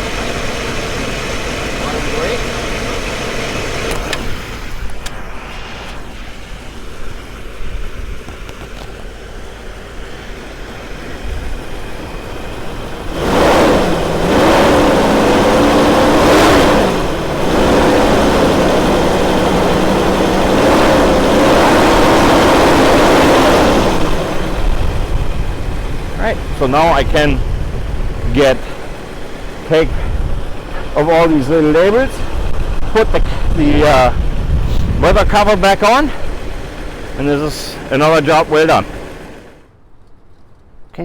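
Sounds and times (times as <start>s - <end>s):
car engine idling and revving: 0.0s - 41.0s.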